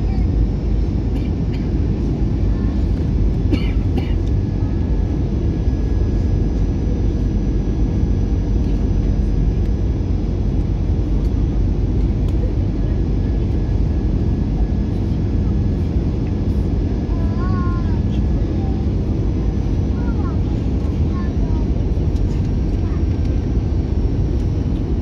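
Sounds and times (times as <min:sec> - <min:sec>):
airplane cabin engine rush: 0:00.0 - 0:25.0.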